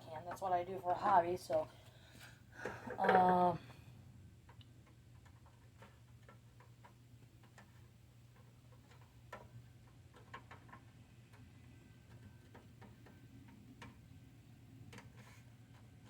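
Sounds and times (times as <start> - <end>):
faint irregular clicks: 1.5 - 16.0.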